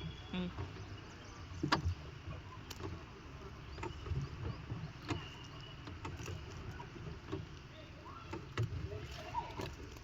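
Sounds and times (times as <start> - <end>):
rowing boat and oars knocking: 0.0 - 10.0.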